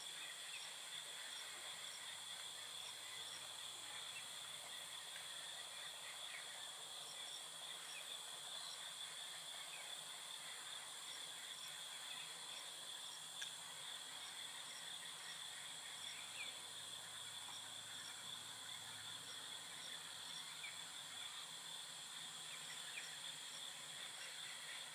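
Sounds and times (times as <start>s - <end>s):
crickets trilling: 0.0s - 24.9s
faint short insect chirps: 0.0s - 24.9s.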